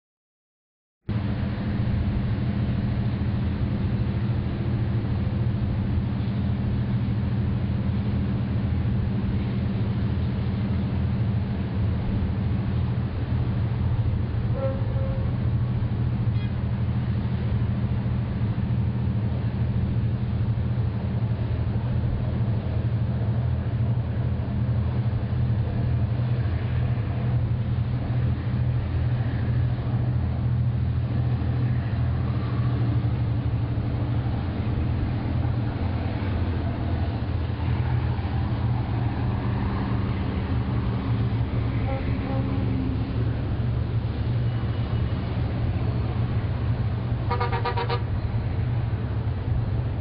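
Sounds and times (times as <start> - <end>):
ship machinery drone: 1.1 - 50.0.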